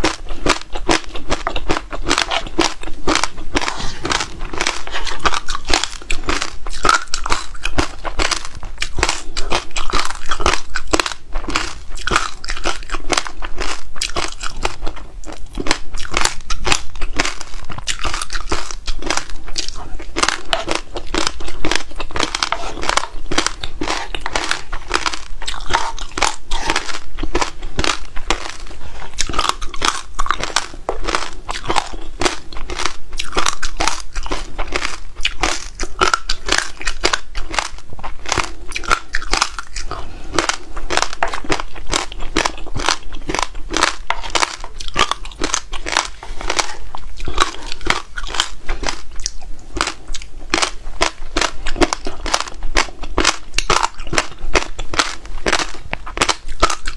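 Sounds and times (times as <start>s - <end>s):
chewing crunchy fruit: 0.0s - 56.9s.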